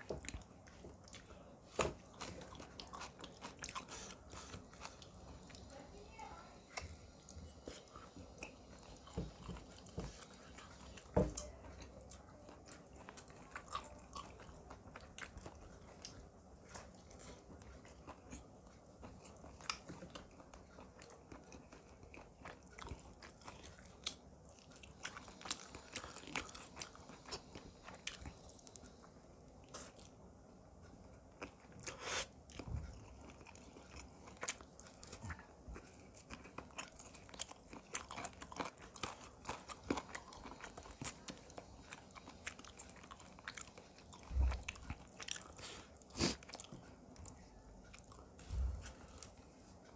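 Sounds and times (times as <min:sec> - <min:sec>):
person chewing crunchy food: 0:00.0 - 0:05.7, 0:06.6 - 0:30.2, 0:31.0 - 0:49.9.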